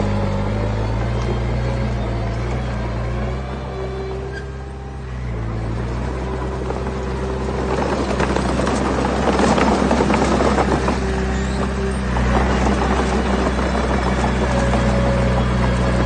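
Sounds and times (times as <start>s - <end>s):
diesel engine running: 0.0s - 16.0s
gritty clattering and grinding: 0.0s - 16.0s.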